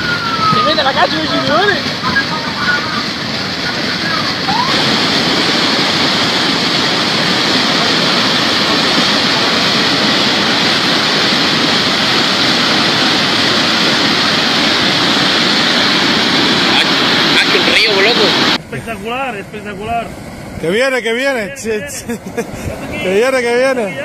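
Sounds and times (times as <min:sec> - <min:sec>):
torrent of rushing water: 0:00.0 - 0:24.0.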